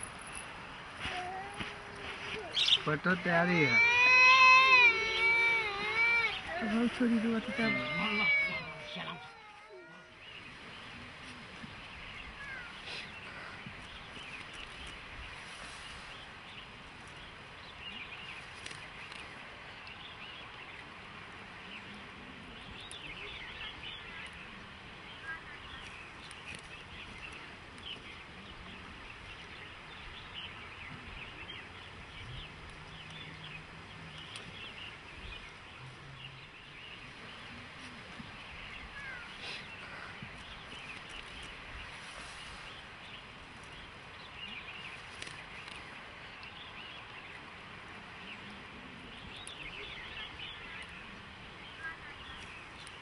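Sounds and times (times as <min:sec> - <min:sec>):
small birds chirping: 0:00.0 - 0:53.0
steady background hiss: 0:00.0 - 0:53.0.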